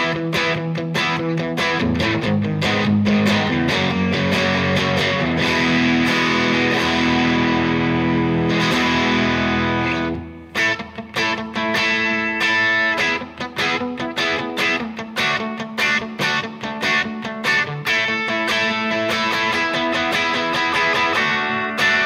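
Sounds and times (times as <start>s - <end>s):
overdriven electric guitar chords: 0.0s - 22.0s.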